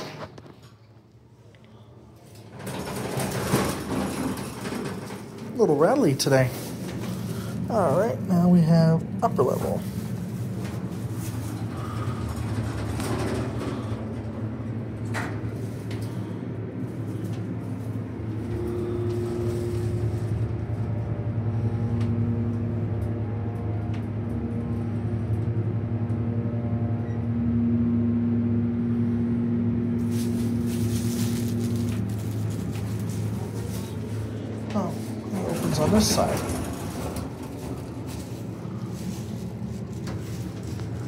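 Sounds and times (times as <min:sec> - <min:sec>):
elevator pump and motor hum: 0:00.0 - 0:41.0
steady whine: 0:03.0 - 0:41.0.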